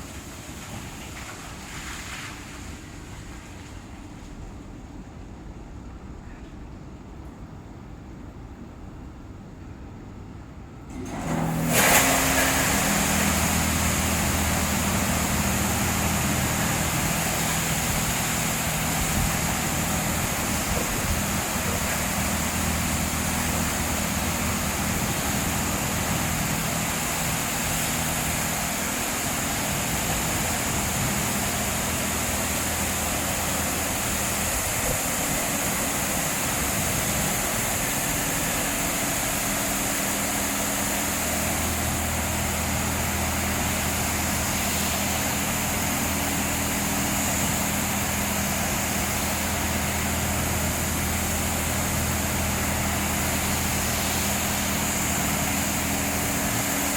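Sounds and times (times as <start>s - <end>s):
motor hum: 10.9s - 56.9s
car wash spray hissing: 11.3s - 56.9s.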